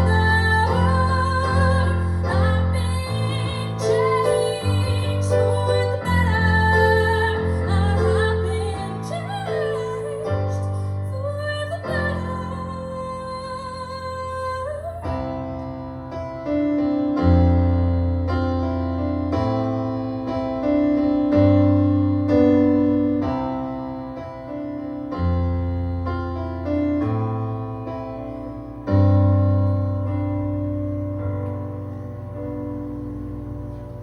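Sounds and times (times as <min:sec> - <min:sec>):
piano chords: 0:00.0 - 0:34.0.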